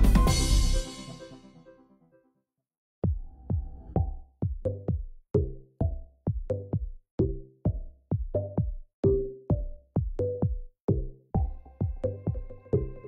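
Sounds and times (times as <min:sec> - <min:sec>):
background music with steady beat: 0:00.0 - 0:01.8, 0:03.0 - 0:13.0.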